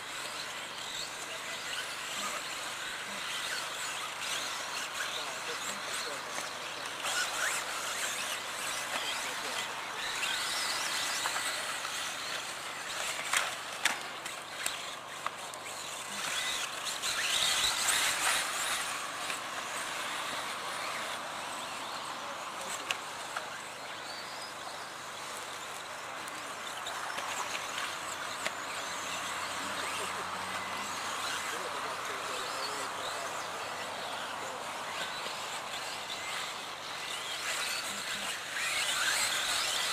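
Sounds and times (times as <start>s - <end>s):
rc car electric motor whine: 0.0s - 39.9s
tyres on gravel: 0.3s - 39.9s.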